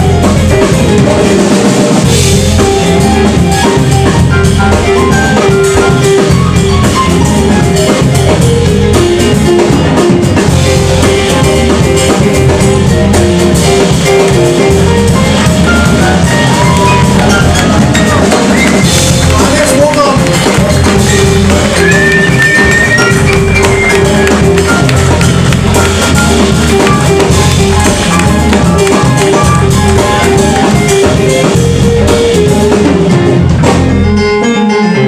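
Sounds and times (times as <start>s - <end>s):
live band playing loudly: 0.0s - 35.0s.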